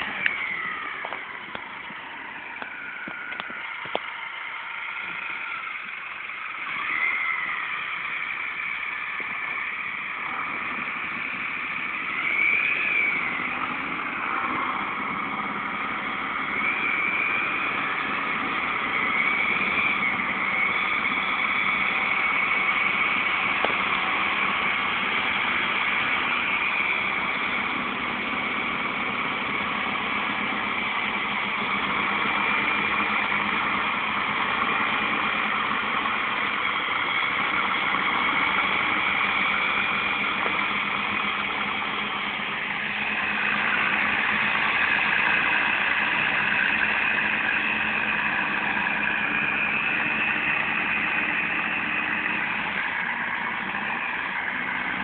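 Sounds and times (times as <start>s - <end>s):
diesel tractor engines running: 0.0s - 55.0s.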